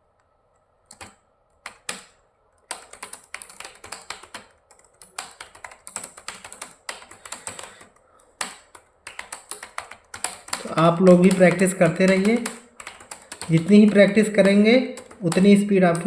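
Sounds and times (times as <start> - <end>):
typing on keyboard: 0.8 - 16.0.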